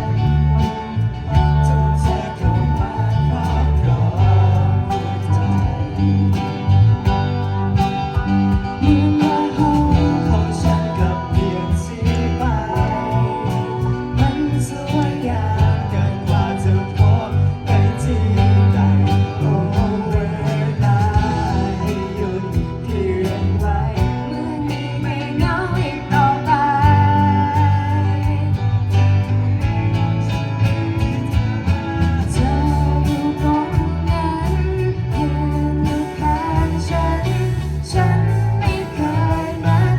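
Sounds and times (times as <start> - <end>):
pop band playing live: 0.0 - 39.9.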